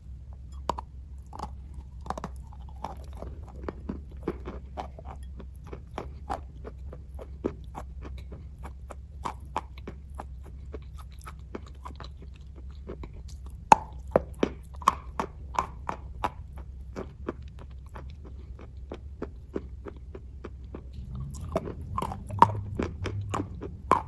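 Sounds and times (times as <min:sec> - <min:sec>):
steady low hum: 0:00.0 - 0:24.0
person chewing with mouth clicks: 0:00.3 - 0:24.0.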